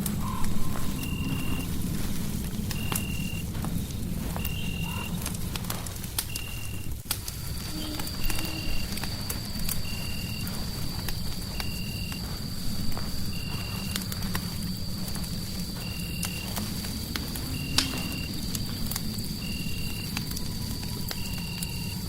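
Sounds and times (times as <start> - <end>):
fireplace crackling and popping: 0.0 - 22.0
low rumble of burning fire: 0.0 - 22.0.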